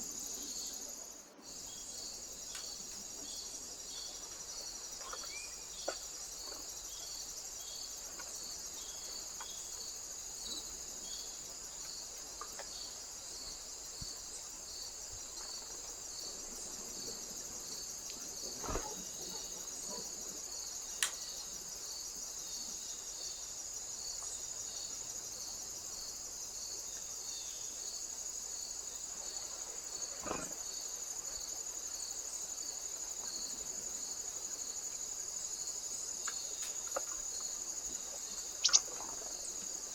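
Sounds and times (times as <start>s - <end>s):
crickets trilling: 0.0s - 39.9s
insect chirping: 0.0s - 39.9s.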